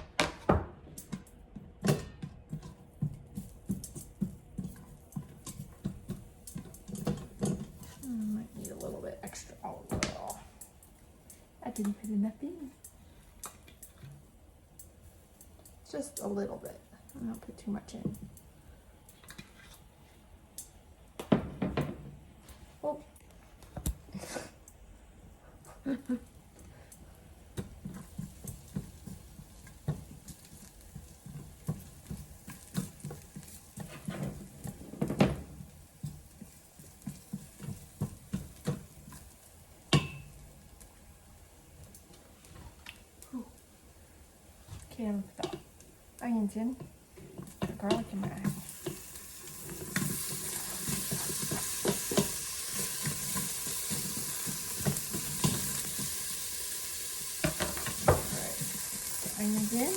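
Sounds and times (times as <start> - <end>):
utensil stirring in a pot: 1.0 - 18.4, 26.7 - 59.9
garlic sizzling in oil: 2.5 - 18.6, 25.8 - 59.9.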